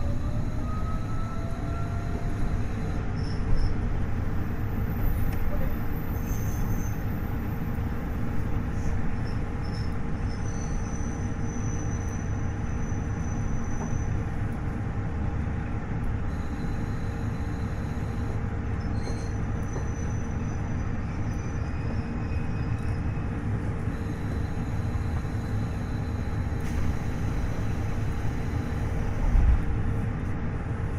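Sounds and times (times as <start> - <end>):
constant hum: 0.0 - 30.9
diesel engine low rumble: 0.0 - 30.9.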